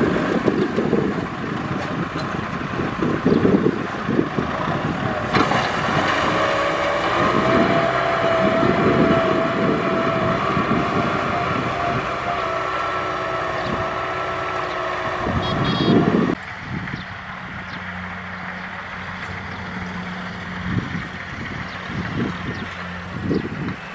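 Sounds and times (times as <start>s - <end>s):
tractor diesel engine under load: 0.0s - 23.9s.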